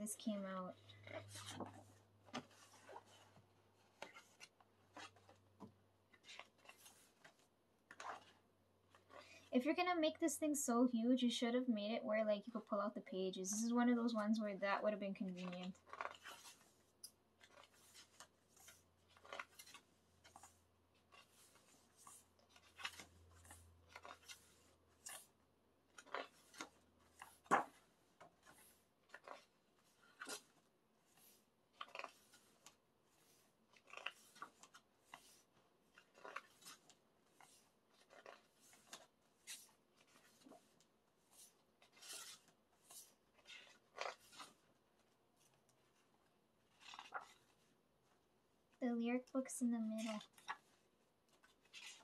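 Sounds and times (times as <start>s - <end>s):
book pages turning: 0.2s - 9.5s, 14.9s - 52.0s.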